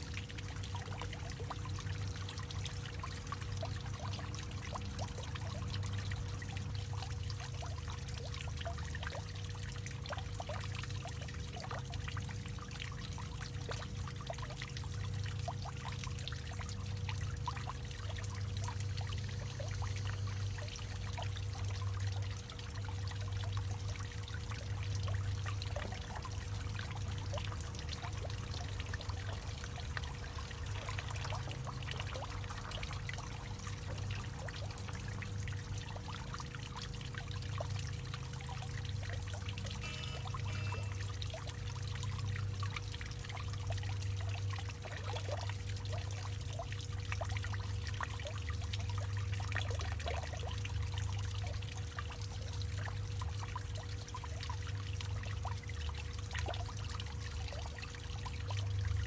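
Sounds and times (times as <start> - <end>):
small water splashes: 0.0 - 59.0
water pouring and trickling: 0.0 - 59.0.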